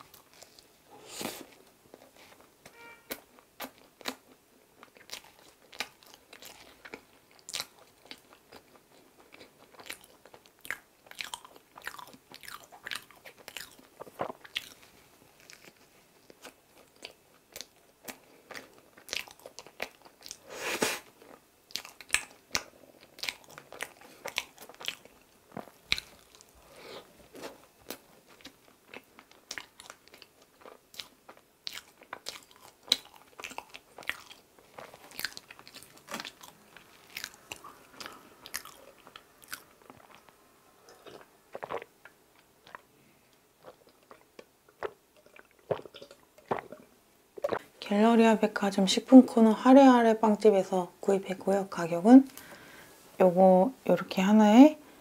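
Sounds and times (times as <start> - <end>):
chewing soft bread: 0.0 - 47.8.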